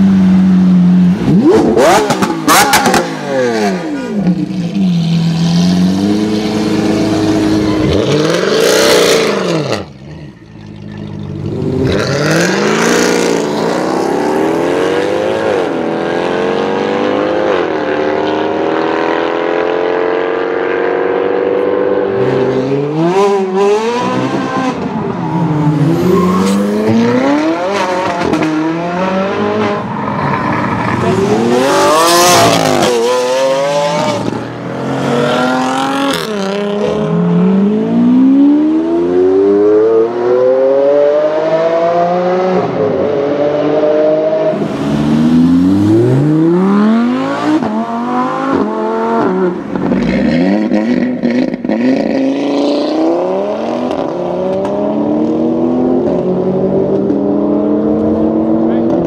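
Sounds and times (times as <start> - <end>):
sports car engines accelerating: 0.0 - 59.0.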